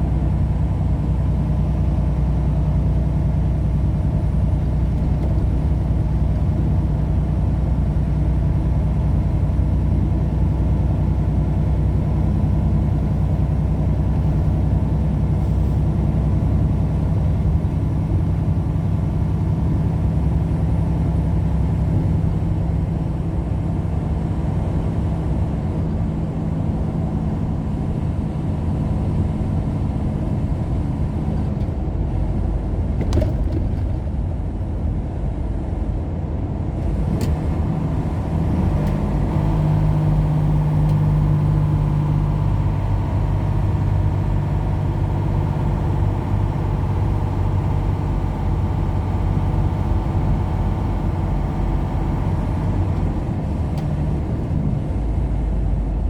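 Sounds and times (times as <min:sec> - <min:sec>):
car engine and tyres humming: 0:00.0 - 0:56.0.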